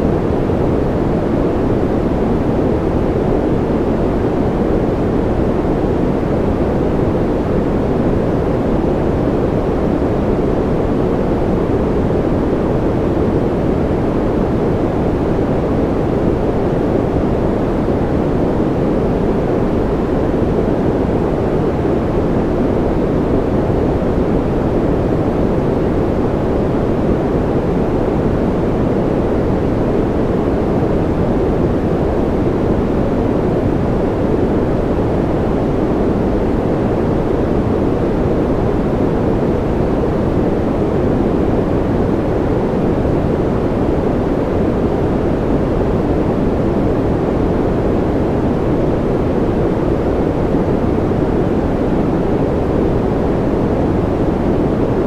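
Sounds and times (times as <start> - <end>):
deep muffled rain-like white noise: 0.0 - 55.0.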